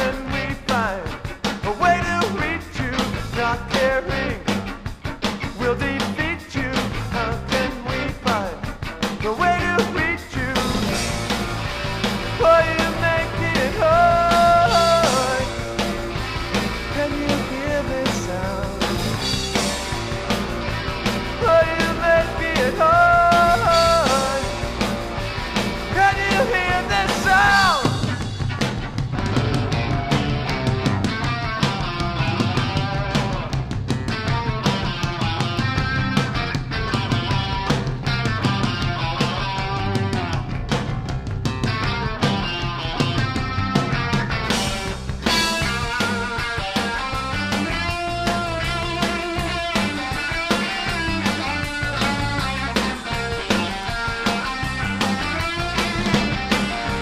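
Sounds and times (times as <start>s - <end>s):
bass: 0.0s - 57.0s
drums: 0.0s - 57.0s
indie rock band playing: 0.0s - 57.0s
sliding lead melody: 6.3s - 57.0s.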